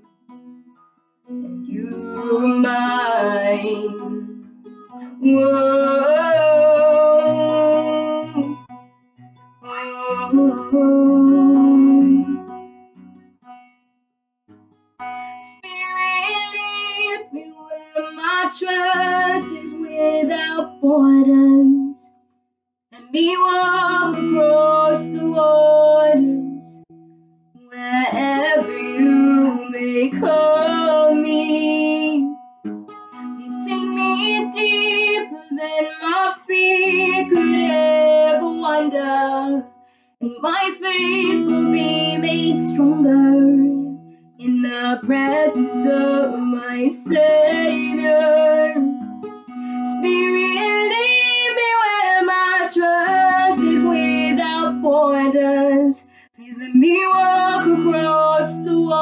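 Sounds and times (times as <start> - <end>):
acoustic guitar strumming: 0.0 - 22.2, 23.0 - 59.0
woman singing: 1.4 - 4.4, 5.0 - 8.6, 9.6 - 12.5, 15.3 - 22.0, 23.0 - 26.8, 27.6 - 32.4, 33.4 - 49.0, 49.8 - 59.0.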